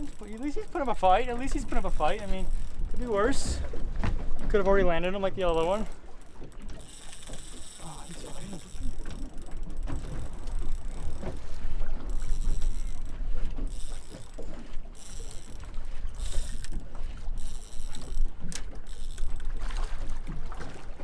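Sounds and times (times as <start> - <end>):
fishing reel gears whirring: 0.0 - 3.7, 5.4 - 20.4.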